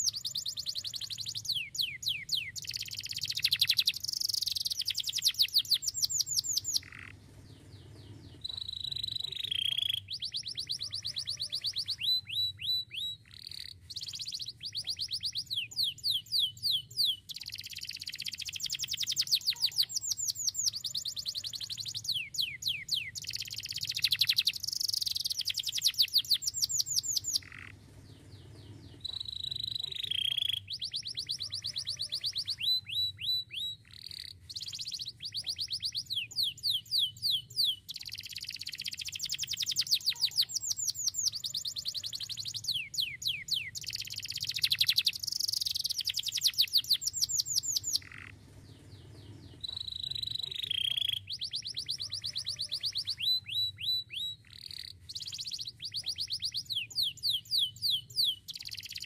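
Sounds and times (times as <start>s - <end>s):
canary singing trills and whistles: 0.0s - 59.0s.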